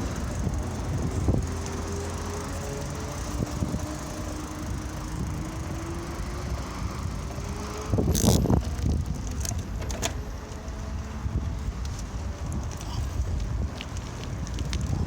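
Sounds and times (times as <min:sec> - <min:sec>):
bicycle riding: 0:00.0 - 0:15.0
road and wind rumble: 0:00.0 - 0:15.0.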